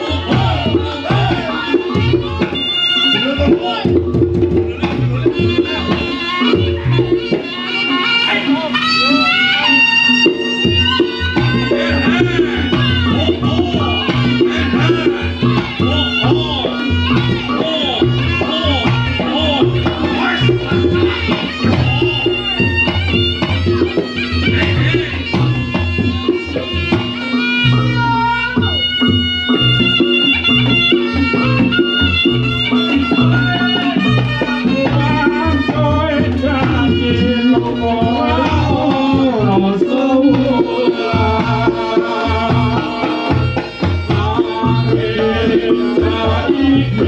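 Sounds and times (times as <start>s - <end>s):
drum strokes: 0.0s - 47.0s
shrill shawm melody: 0.0s - 47.0s.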